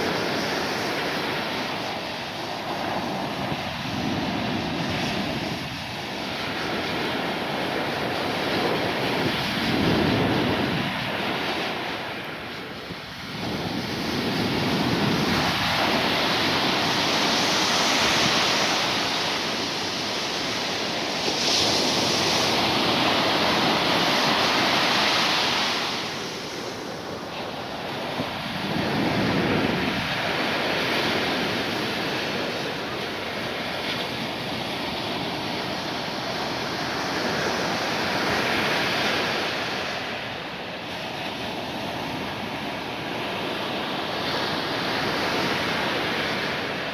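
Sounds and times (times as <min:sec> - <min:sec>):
storm waves breaking: 0:00.0 - 0:46.9.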